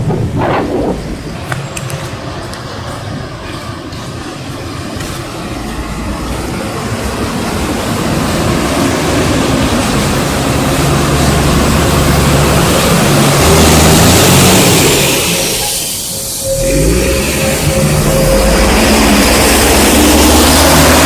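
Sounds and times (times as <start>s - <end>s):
bus diesel engine passing: 0.0s - 21.0s
rushing noise: 0.0s - 21.0s.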